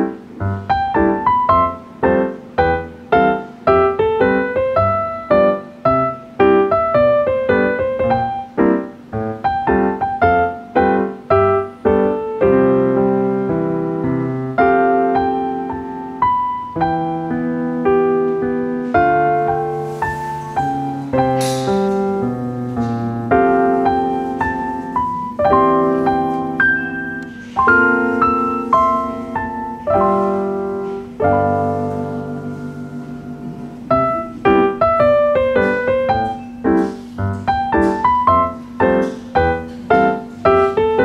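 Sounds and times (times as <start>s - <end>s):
piano music: 0.0s - 41.0s.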